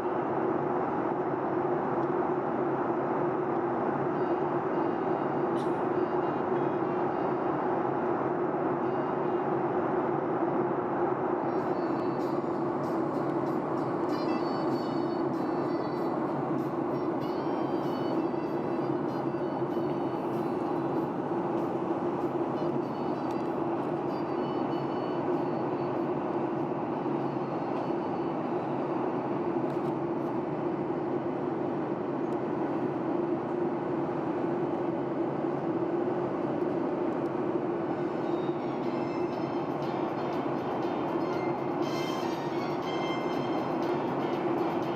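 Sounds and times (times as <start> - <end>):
airliner cabin rumble: 0.0 - 40.6
constant low hum: 0.0 - 44.9.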